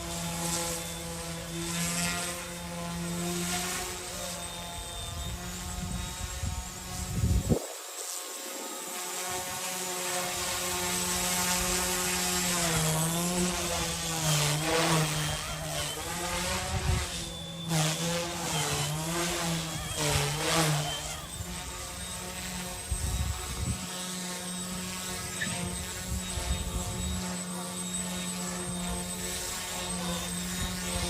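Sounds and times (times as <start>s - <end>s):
rc helicopter motor whining: 0.0s - 31.0s.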